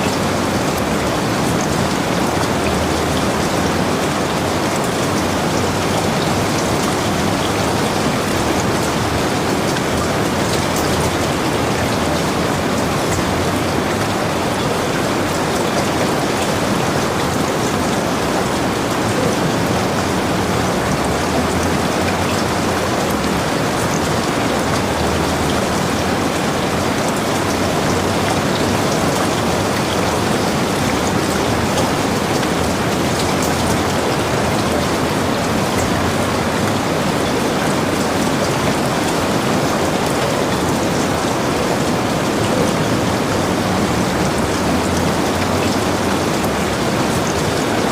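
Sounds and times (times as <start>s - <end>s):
heavy rain: 0.0s - 47.9s.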